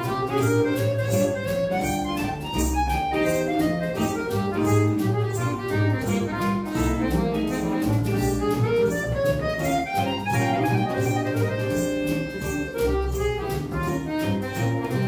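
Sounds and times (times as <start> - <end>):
small acoustic band playing: 0.0 - 15.0.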